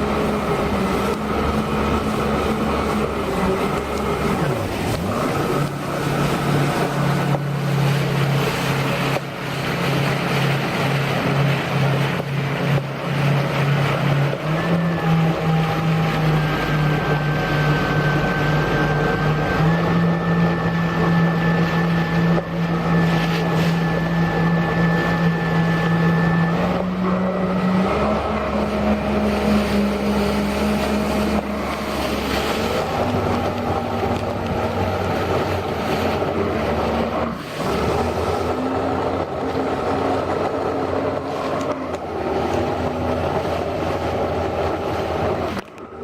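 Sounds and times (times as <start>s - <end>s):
jet ski engine running: 0.0s - 46.0s
rushing water: 0.0s - 46.0s.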